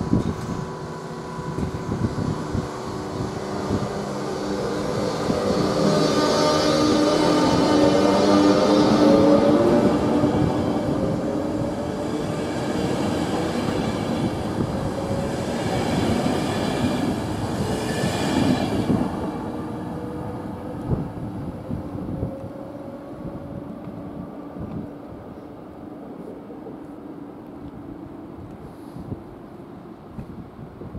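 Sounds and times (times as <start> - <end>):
train coaches rolling past: 0.0 - 30.6.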